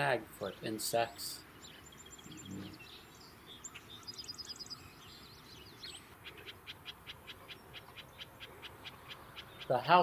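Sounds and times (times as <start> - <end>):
bird twittering: 1.4 - 10.0.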